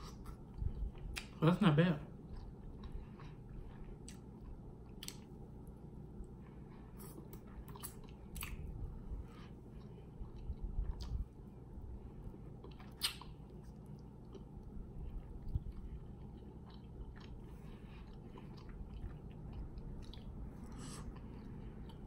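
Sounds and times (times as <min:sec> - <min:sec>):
low steady hum: 0:00.0 - 0:22.0
person chewing chicken: 0:02.1 - 0:22.0.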